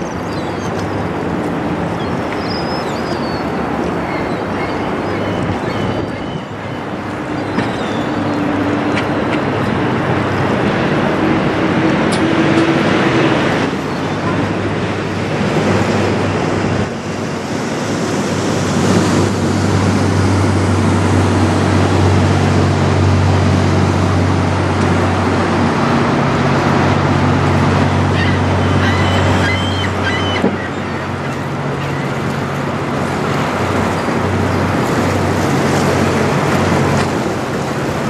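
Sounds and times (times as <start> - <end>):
boat engine hum: 0.0 - 38.0
river water rushing: 0.0 - 38.0
wind: 0.0 - 38.0.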